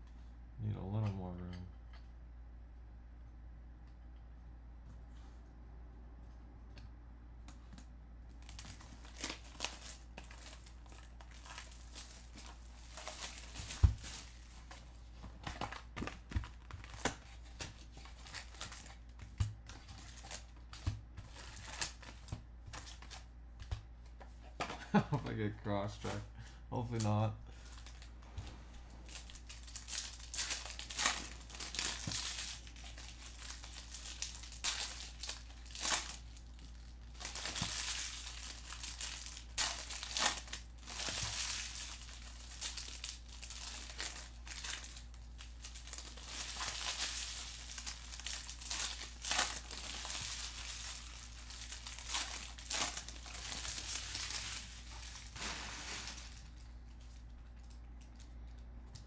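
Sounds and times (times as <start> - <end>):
card pack wrappers crinkling: 8.3 - 26.2, 26.8 - 59.0.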